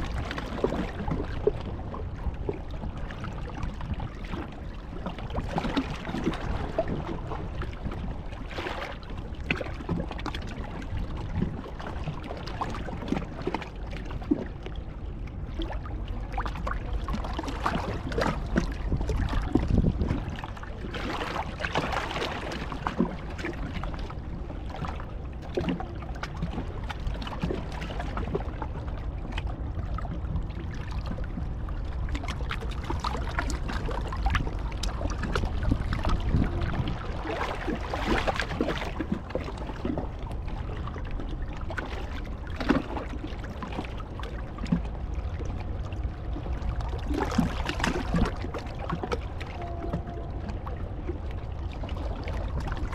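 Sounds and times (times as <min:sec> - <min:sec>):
low rumble: 0:00.0 - 0:52.9
water lapping and splashing: 0:00.0 - 0:52.9.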